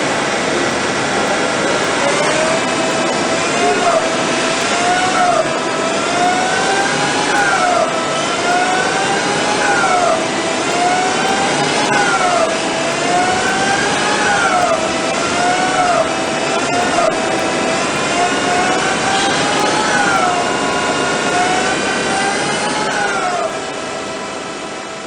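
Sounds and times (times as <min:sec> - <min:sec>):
lathe whine rising in pitch: 0:00.0 - 0:25.0
machine noise: 0:00.0 - 0:25.0.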